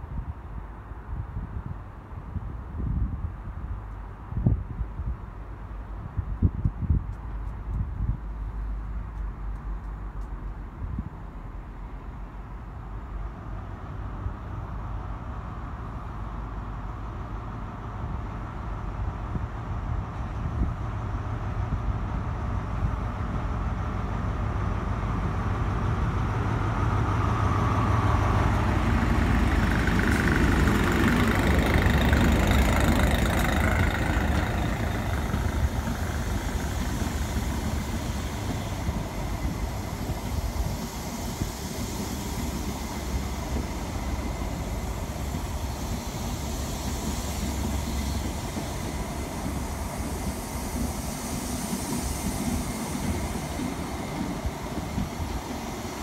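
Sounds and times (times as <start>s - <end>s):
diesel train engine rumble: 0.0s - 56.0s
train coaches rolling past: 7.1s - 56.0s.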